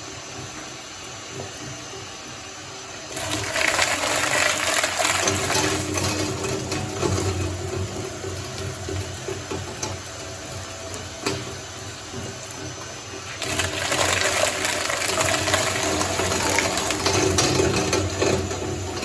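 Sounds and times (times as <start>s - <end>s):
shredder churning slime: 0.0s - 19.0s
shredder motor hum: 0.0s - 19.0s.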